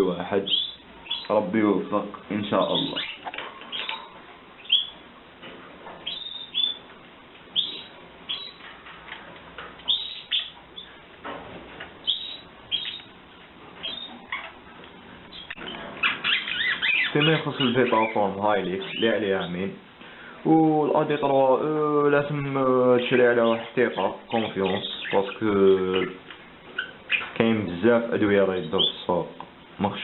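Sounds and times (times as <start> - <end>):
canaries chirping: 0.0 - 19.8, 20.9 - 29.2.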